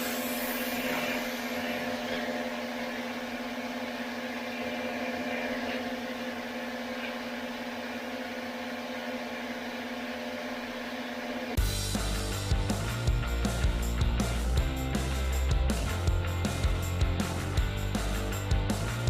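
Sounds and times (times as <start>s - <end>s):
pressure washer running: 0.0s - 19.0s.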